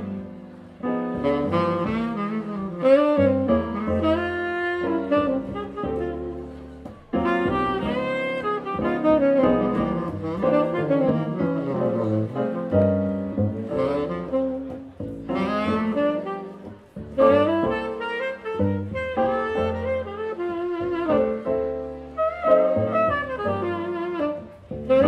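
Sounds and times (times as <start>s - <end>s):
saxophone solo: 0.0s - 25.0s
upright double bass: 0.0s - 25.0s.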